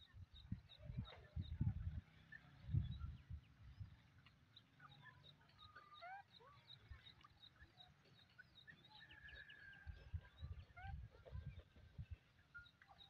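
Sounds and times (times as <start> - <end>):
small birds chirping and whistling: 0.0 - 13.0.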